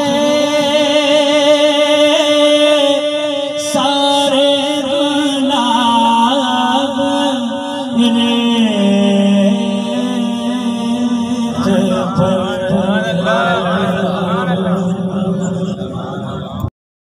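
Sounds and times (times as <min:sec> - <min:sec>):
man singing through pa: 0:00.0 - 0:16.7.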